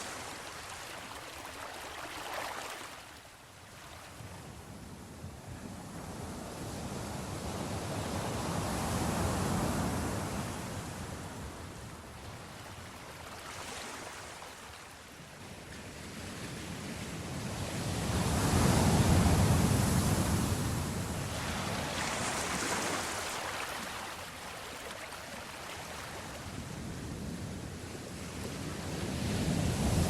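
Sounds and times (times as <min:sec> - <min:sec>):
ocean waves breaking on shore: 0:00.0 - 0:30.0.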